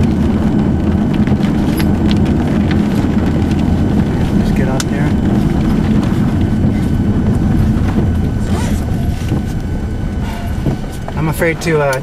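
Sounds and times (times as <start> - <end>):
vehicle rumble from inside cabin: 0.0 - 12.0
windshield wipers sweeping: 0.0 - 12.0.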